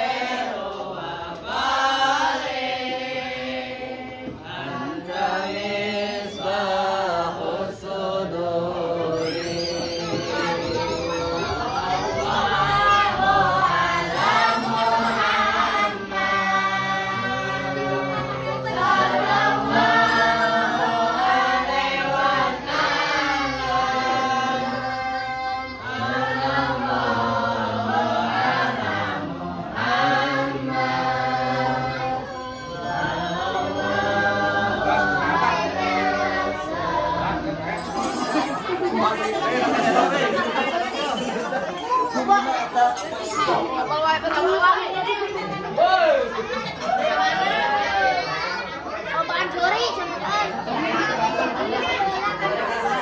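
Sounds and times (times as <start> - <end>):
group singing devotional songs: 0.0 - 53.0.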